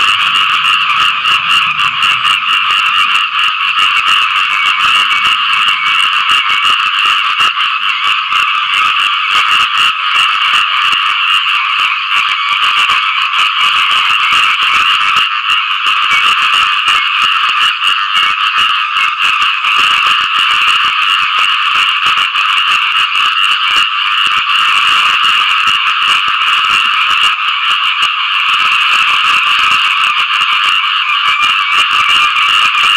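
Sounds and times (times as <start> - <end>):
chorus of frogs calling: 0.0 - 32.9.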